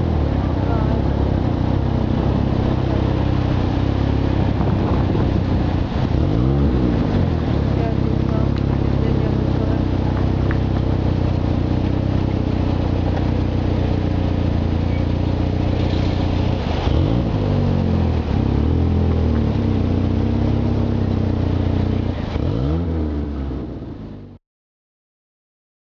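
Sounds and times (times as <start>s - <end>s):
car engines accelerating: 0.0s - 24.4s
low engine drone: 0.0s - 24.4s.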